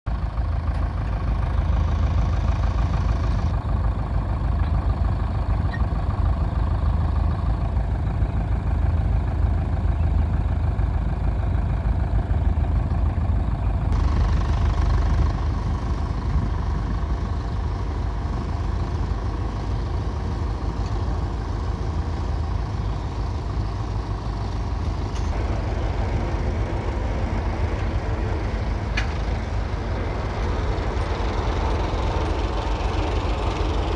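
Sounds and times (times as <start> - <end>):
tractor diesel engine rumbling: 0.0 - 33.9.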